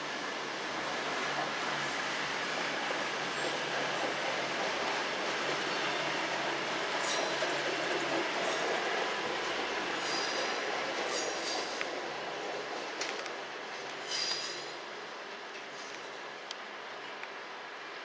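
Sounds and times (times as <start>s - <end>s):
train rumbling over tracks: 0.0s - 18.0s.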